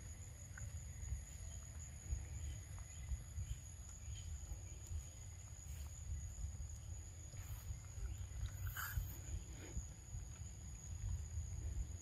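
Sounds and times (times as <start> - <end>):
faint bird chirps: 0.0 - 11.9.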